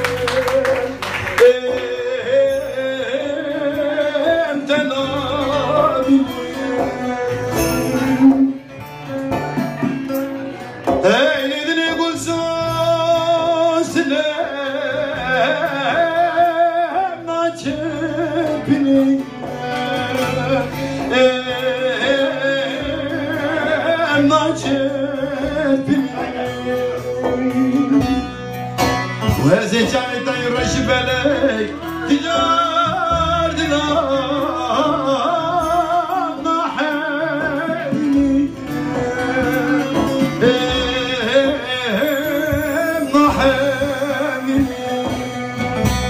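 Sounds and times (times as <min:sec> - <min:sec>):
amplified plucked lute: 0:00.0 - 0:46.0
man singing through microphone: 0:00.0 - 0:46.0.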